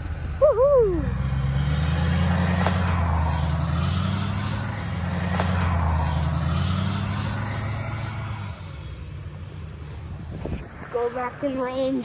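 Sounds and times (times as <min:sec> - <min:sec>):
truck engine running: 0:00.0 - 0:10.6.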